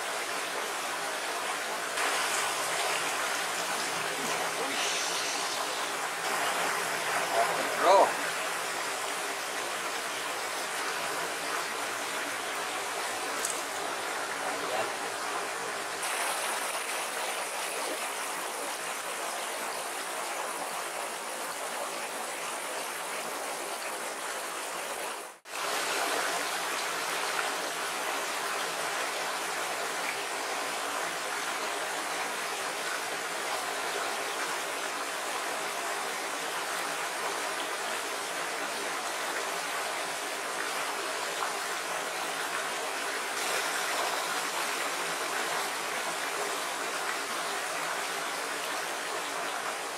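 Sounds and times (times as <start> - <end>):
stream rippling over rocks: 0.0 - 49.9.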